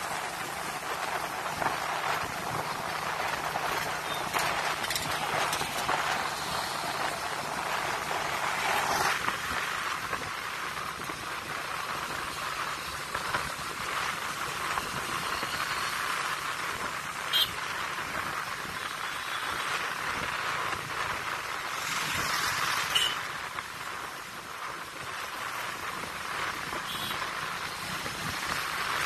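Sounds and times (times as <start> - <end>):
motorbike road and wind noise: 0.0 - 29.0.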